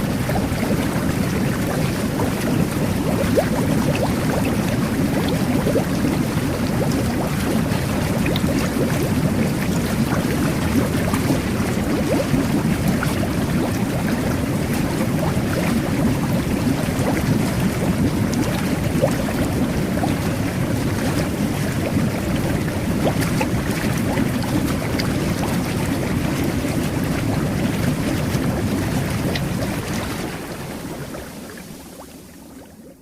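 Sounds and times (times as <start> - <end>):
jet bath water bubbling: 0.0 - 33.0.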